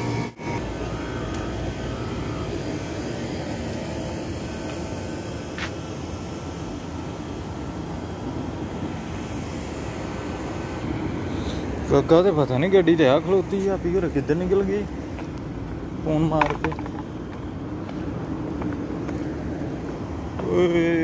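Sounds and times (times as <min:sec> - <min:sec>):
distant road traffic hum: 0:00.0 - 0:21.0.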